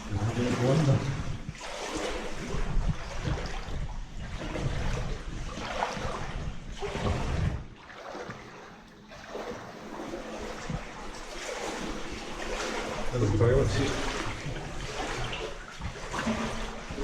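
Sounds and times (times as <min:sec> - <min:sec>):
boots wading through water: 0:00.0 - 0:17.0.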